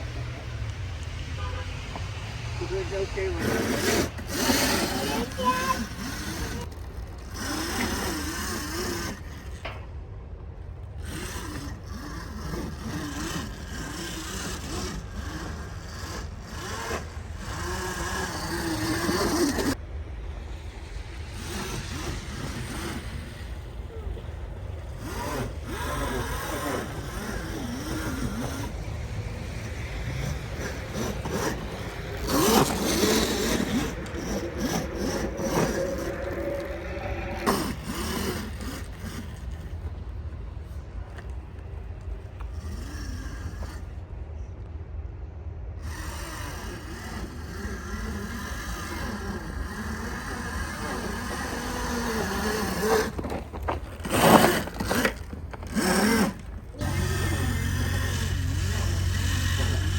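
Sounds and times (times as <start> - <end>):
dirt bike motor revving: 0.0 - 9.9, 10.7 - 44.0, 45.8 - 59.9.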